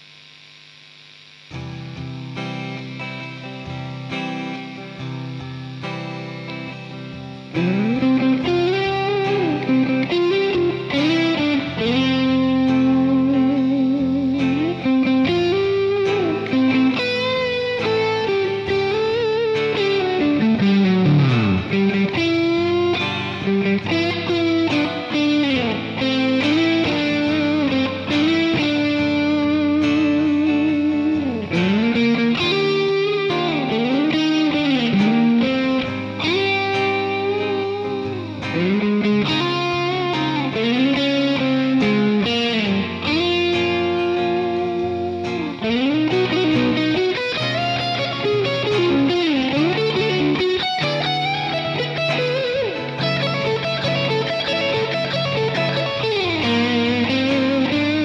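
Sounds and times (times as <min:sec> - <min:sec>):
guitar melody with vibrato: 0:01.4 - 0:58.0.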